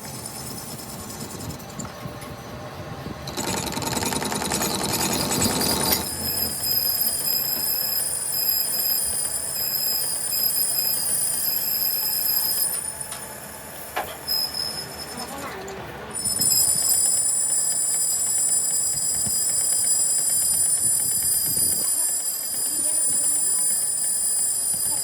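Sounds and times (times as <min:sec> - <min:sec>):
fast mechanical clatter: 0:00.0 - 0:02.4, 0:03.2 - 0:13.0, 0:15.1 - 0:25.0
machine high-pitched whine: 0:00.0 - 0:25.0.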